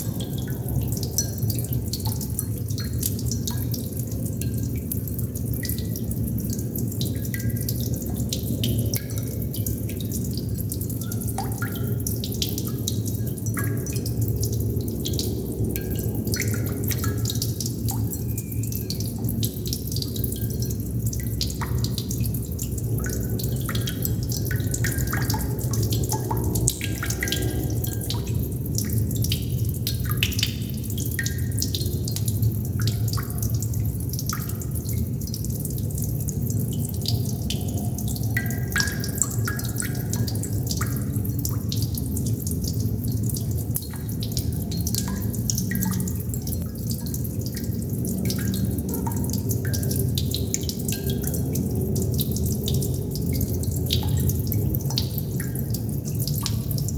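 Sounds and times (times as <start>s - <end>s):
water droplets dripping: 0.0s - 56.9s.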